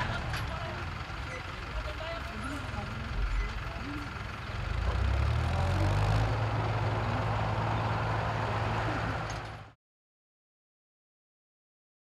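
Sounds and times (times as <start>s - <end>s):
harvester engine humming: 0.0s - 9.8s.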